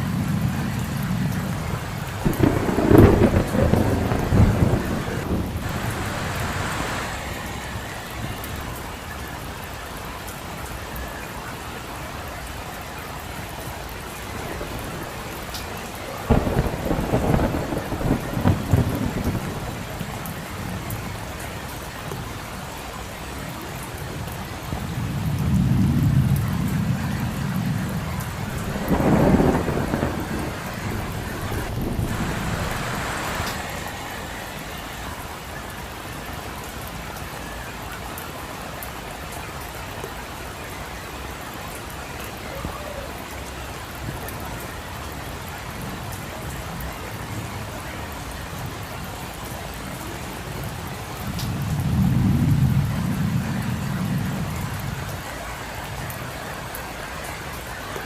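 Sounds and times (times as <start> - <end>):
rain falling on street: 0.0 - 58.0.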